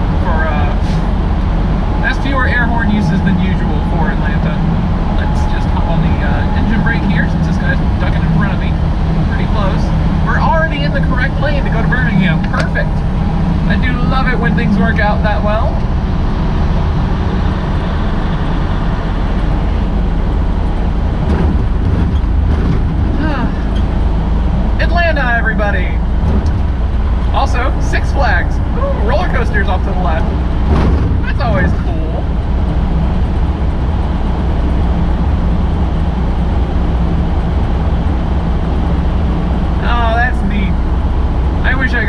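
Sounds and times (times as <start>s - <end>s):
road and tyre noise: 0.0s - 42.0s
truck engine drone: 0.0s - 42.0s.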